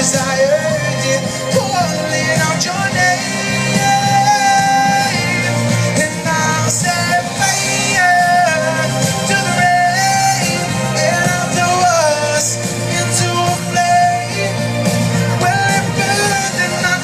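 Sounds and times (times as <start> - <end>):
backing music: 0.0 - 17.0
man singing a pop ballad: 0.0 - 17.0.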